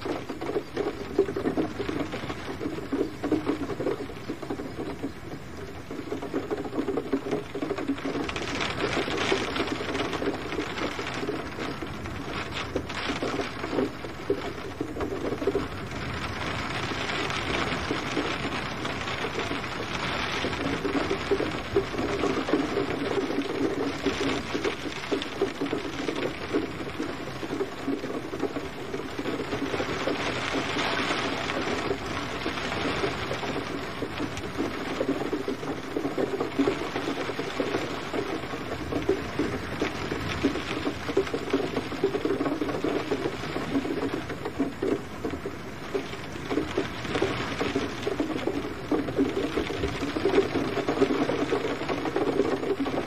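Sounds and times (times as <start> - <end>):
gentle rain pattering: 0.0 - 53.0.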